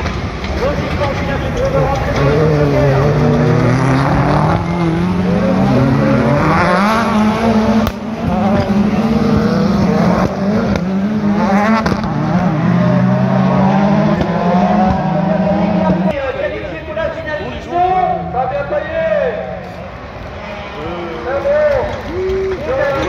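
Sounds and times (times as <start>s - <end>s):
race car engines revving: 0.0s - 23.0s.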